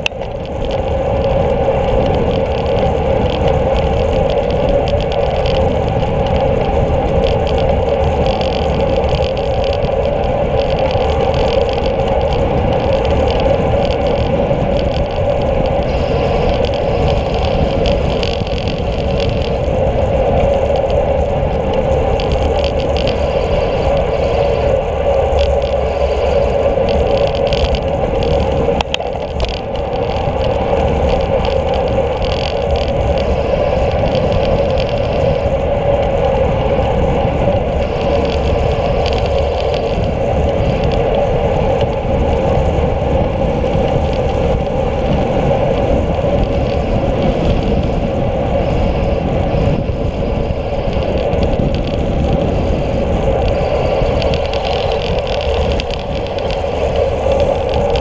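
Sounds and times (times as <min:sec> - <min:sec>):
bicycle tyres on asphalt: 0:00.0 - 0:58.0
wind noise: 0:00.0 - 0:58.0.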